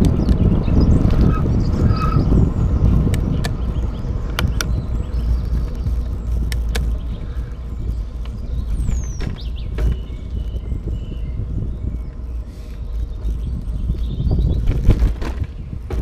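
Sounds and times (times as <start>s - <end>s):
bicycle clicks and rattles: 0.0s - 16.0s
wind rumbling on microphone: 0.0s - 16.0s.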